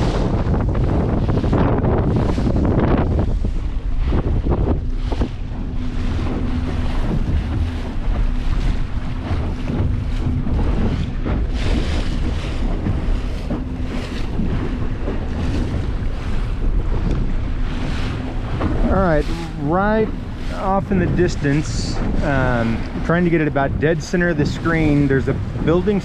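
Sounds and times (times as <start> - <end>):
outboard motor humming: 0.0 - 26.0
water splashing against hull: 0.0 - 26.0
wind buffeting microphone: 0.0 - 26.0.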